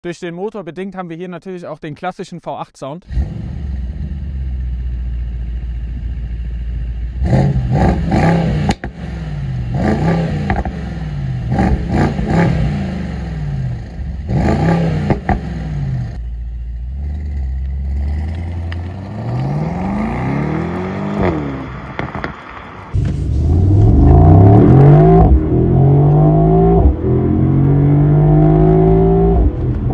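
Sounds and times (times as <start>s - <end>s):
car engine idling and revving: 3.1s - 29.9s
car pulling away: 3.1s - 29.9s
exhaust cracks: 3.1s - 29.9s.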